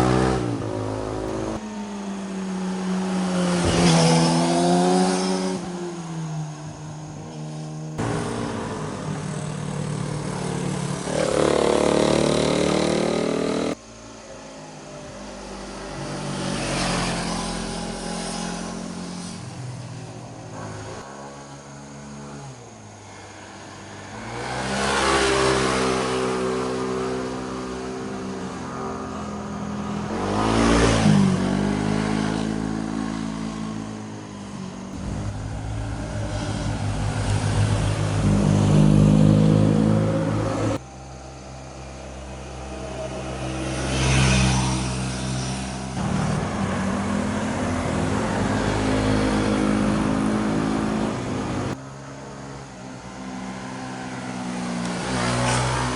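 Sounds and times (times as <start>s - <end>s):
motorcycles revving past: 0.0s - 6.3s, 8.0s - 13.8s, 15.4s - 40.8s, 42.6s - 51.8s, 53.1s - 55.9s.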